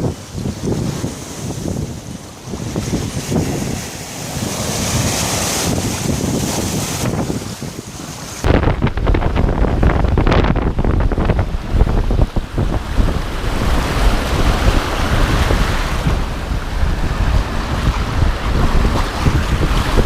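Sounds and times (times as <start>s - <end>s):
storm waves crashing: 0.0s - 20.0s
wind buffeting microphone: 0.0s - 20.0s.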